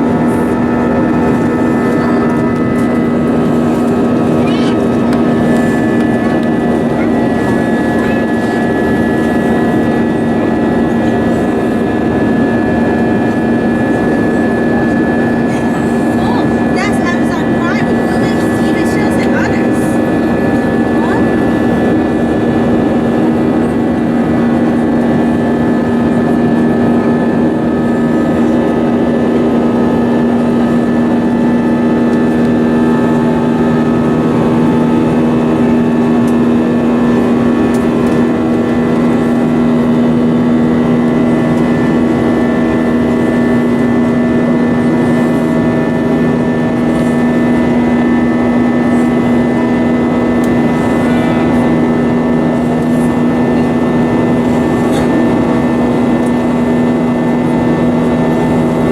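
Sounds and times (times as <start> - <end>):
jet engines in cabin: 0.0 - 58.9.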